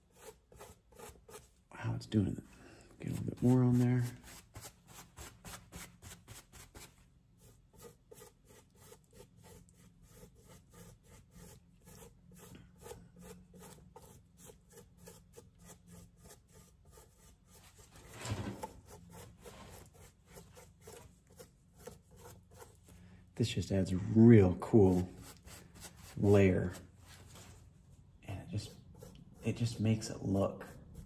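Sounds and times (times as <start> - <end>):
brush scratching over rubber mask: 0.0 - 1.7, 3.0 - 23.1, 24.6 - 31.0.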